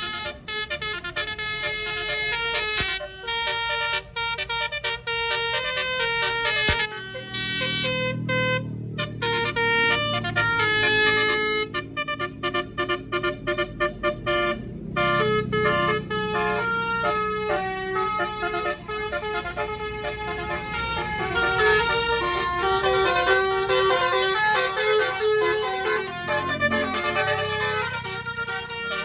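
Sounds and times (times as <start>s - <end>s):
bus engine rumbling: 0.0s - 29.0s
bus horn playing melody: 0.0s - 29.0s.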